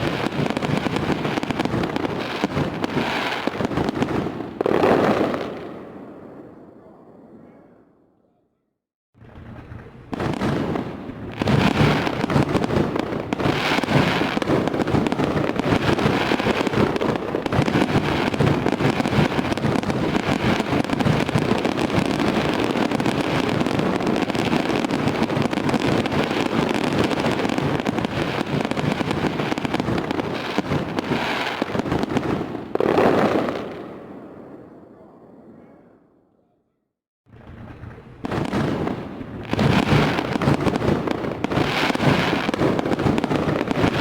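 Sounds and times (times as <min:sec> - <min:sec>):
fireworks bangs and crackling: 0:00.0 - 0:07.4, 0:09.2 - 0:35.6, 0:37.3 - 0:44.0.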